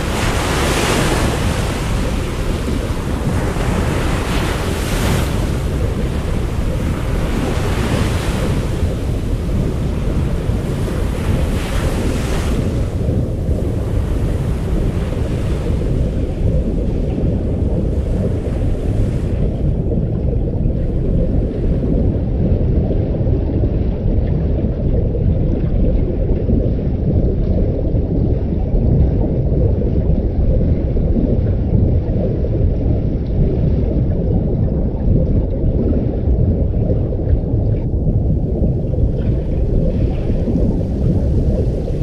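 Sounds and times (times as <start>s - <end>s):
muffled underwater rumble: 0.0s - 42.0s.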